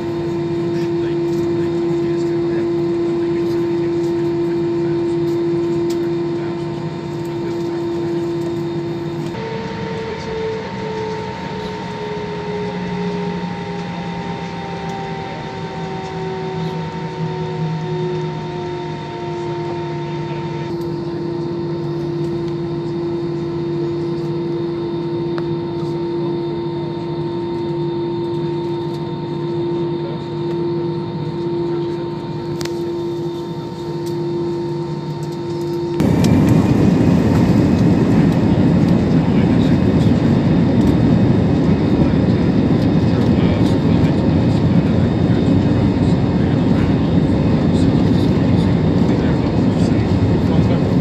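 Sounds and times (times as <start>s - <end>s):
airliner engine hum: 0.0s - 51.0s.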